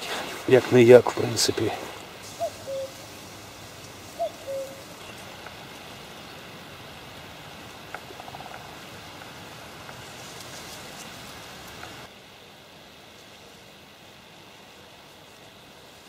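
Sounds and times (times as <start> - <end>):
wind hiss: 0.0 - 16.0.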